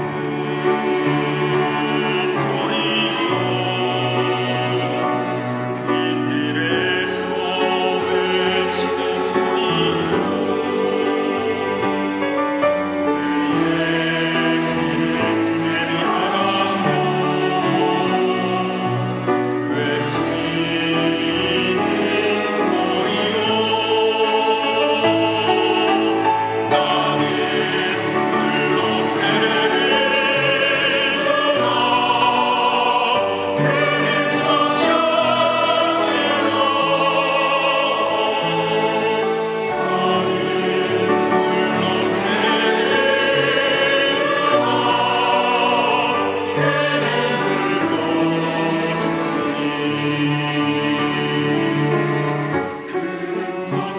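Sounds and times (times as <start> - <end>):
church choir singing: 0.0 - 53.9
instrumental accompaniment: 0.0 - 53.9.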